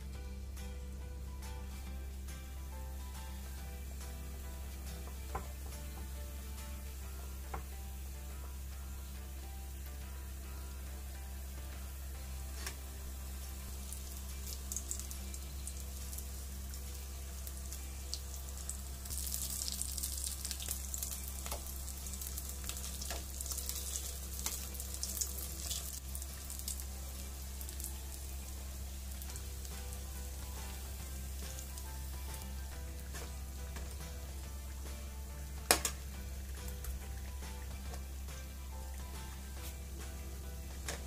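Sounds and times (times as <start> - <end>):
food deep-frying in hot oil: 1.4 - 41.0.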